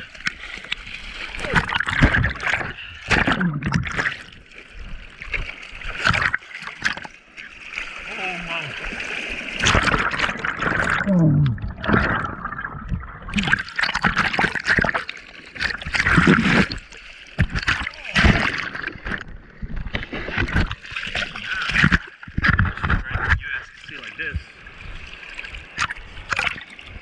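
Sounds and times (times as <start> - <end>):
water splashing and gurgling: 0.0 - 27.0.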